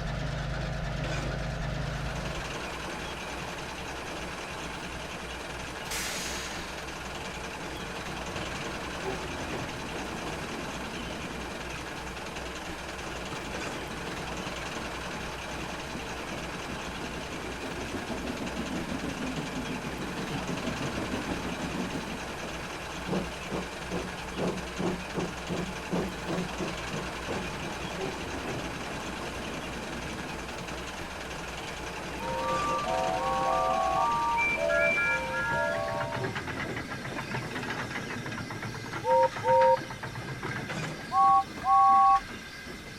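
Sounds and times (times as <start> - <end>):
steam train hiss and rumble: 2.4 - 42.9.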